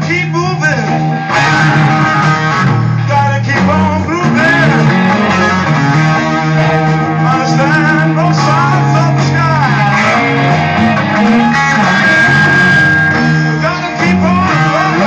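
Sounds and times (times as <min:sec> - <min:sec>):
lead guitar bending notes: 0:00.0 - 0:15.0
sustained low bass notes: 0:00.0 - 0:15.0.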